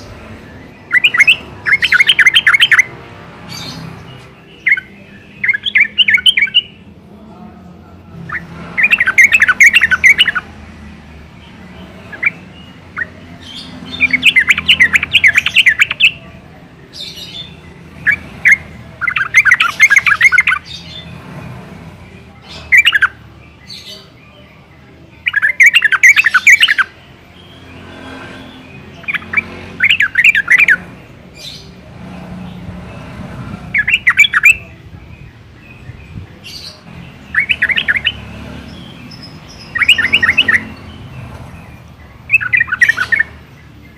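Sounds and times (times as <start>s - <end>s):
bulbul chattering song: 0.0s - 43.9s.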